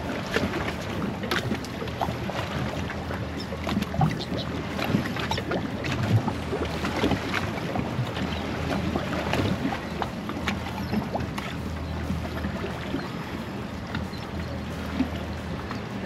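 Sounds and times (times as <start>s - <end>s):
water around a boat: 0.0s - 16.0s.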